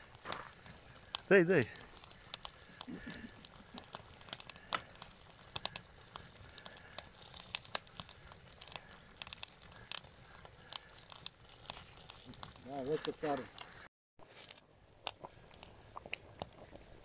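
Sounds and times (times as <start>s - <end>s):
wood crackling in stove: 0.0s - 17.0s.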